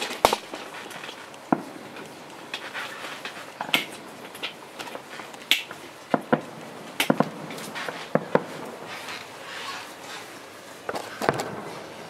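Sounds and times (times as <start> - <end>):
faint hiss: 0.0 - 12.0
fireworks crackling: 0.0 - 12.0.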